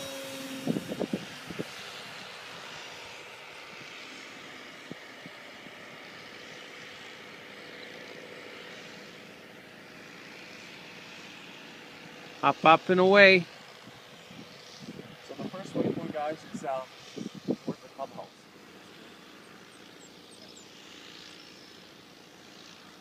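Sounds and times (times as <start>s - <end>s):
drone propeller motor humming: 0.0s - 23.0s.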